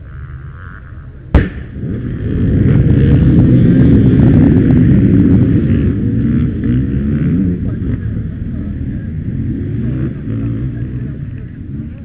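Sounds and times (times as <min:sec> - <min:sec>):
dirt bikes revving: 0:00.0 - 0:12.0.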